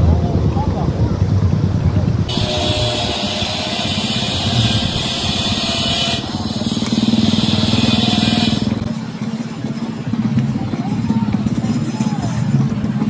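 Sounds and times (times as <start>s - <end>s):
small engine running: 2.3s - 13.0s.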